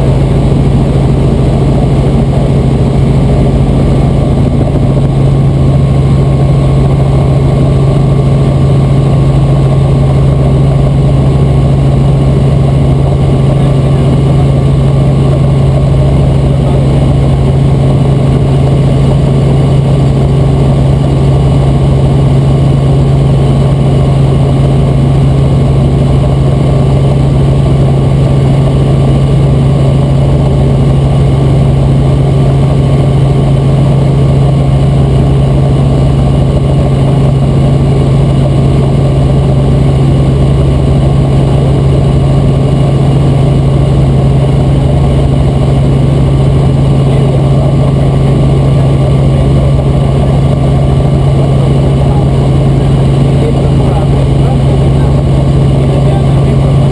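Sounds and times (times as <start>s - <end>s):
helicopter cabin drone: 0.0s - 56.9s.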